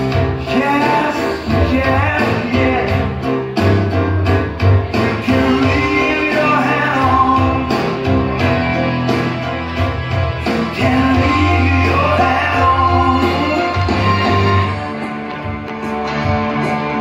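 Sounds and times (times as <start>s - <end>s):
rock song with singing and guitar: 0.0s - 17.0s.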